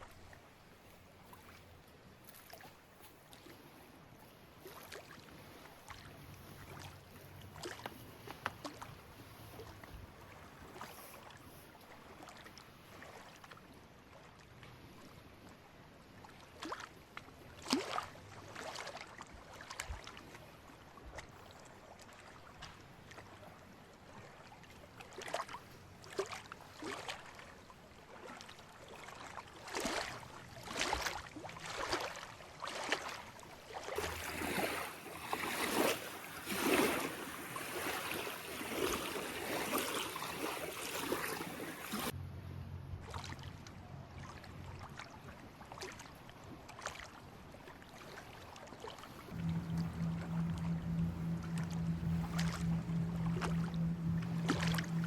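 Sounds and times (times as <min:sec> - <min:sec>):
water splashing and lapping: 0:00.0 - 0:42.2, 0:42.8 - 0:55.0
low steady background noise: 0:00.0 - 0:55.0.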